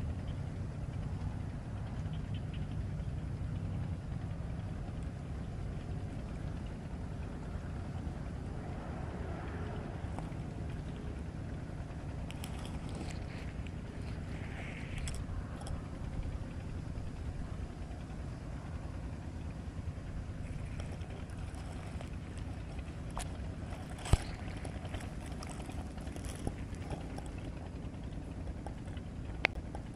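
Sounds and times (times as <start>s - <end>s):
wind rumble on microphone: 0.0s - 29.9s
faint ticks: 4.6s - 8.1s, 9.1s - 29.9s.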